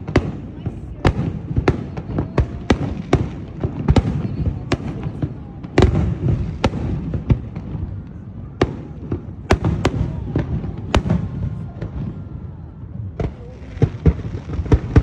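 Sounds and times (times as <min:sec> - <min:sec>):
firework bangs: 0:00.0 - 0:15.0.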